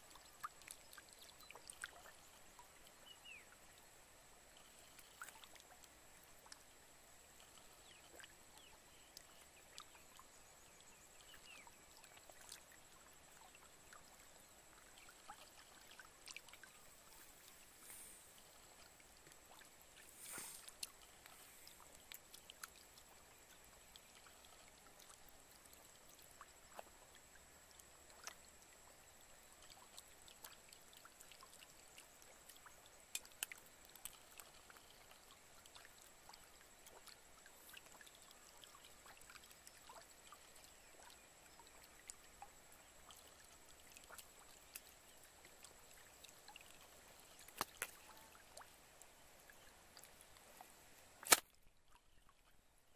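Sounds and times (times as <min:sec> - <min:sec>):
fish splashing in shallow water: 0:00.0 - 0:52.9.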